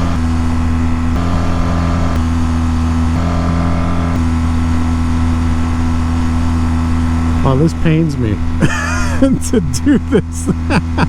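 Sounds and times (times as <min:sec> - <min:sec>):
motorcycle engine high-revving: 0:00.0 - 0:11.0
road and wind noise: 0:00.0 - 0:11.0.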